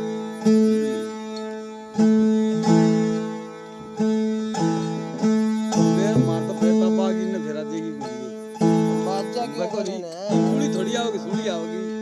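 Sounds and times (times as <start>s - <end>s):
plucked string instrument melody: 0.0s - 12.0s.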